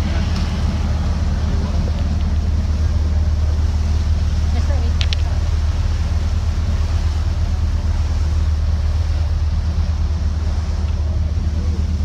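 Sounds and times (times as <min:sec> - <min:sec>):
boat engine humming: 0:00.0 - 0:12.0
water rushing: 0:00.0 - 0:12.0.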